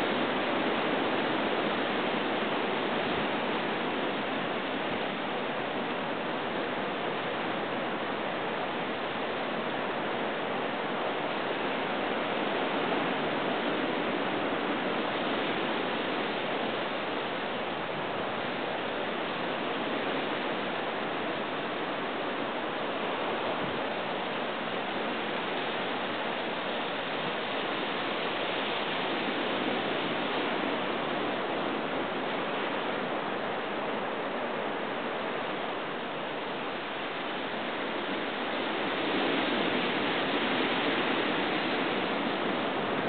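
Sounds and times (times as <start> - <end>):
ocean surf on rocky shore: 0.0 - 43.0.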